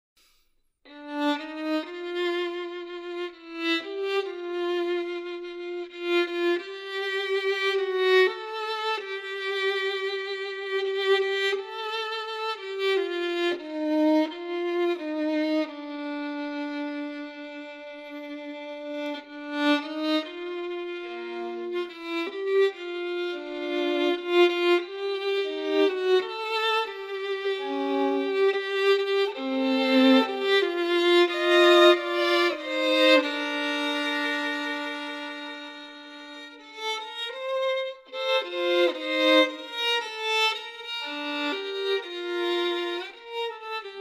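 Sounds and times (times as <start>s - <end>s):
slow violin melody: 0.9s - 44.0s.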